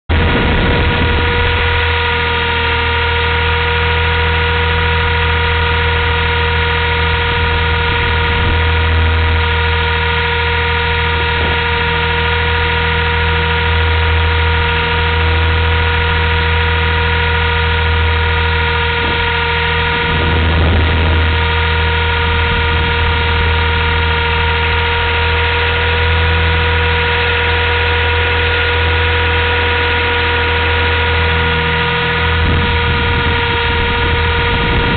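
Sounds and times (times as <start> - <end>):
high whining tones: 0.1 - 34.9
rc helicopter motor and rotor hum: 0.1 - 34.9.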